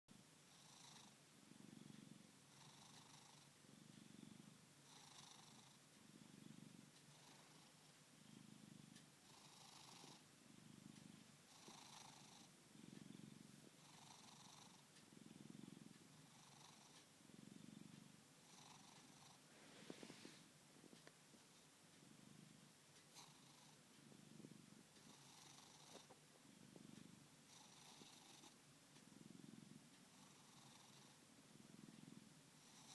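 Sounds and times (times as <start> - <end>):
cat purring and snoring: 0.5 - 32.9.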